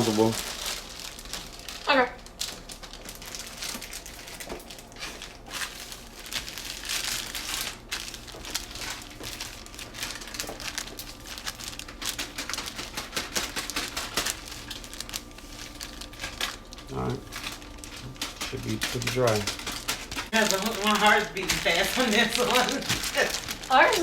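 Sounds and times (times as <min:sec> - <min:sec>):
snack bag crinkling: 0:00.0 - 0:24.0.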